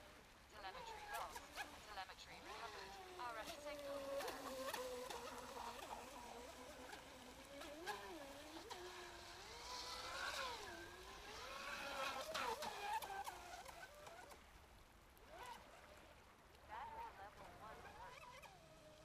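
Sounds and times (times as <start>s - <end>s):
model boat motor whining: 0.0s - 19.0s.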